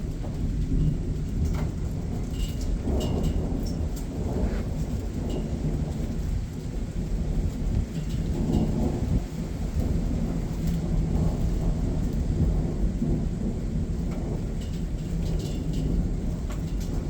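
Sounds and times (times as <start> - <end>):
rain falling: 0.0 - 17.0
raindrop ticks: 0.0 - 17.0
thunder rumbling: 0.0 - 17.0.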